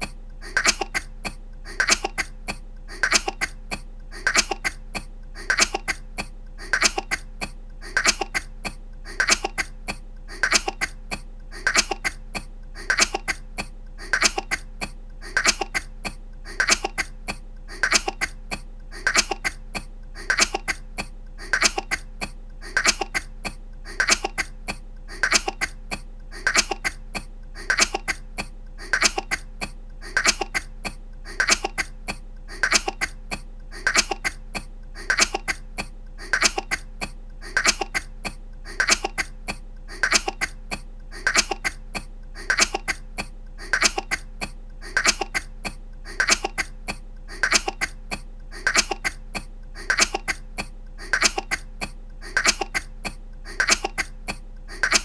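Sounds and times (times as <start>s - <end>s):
woman coughing: 0.0s - 55.0s.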